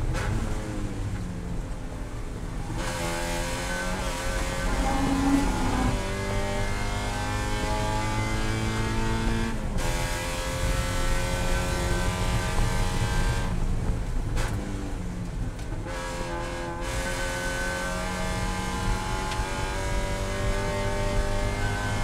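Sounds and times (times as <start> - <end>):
racing car engine revving: 0.1 - 15.0, 15.9 - 22.0.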